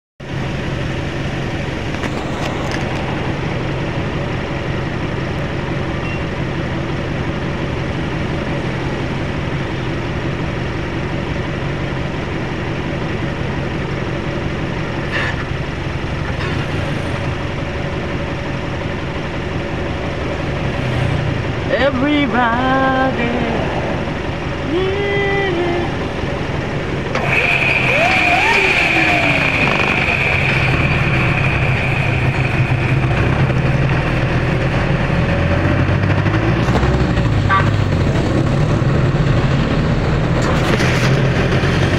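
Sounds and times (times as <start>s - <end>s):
jeep engine idling: 0.2s - 41.9s.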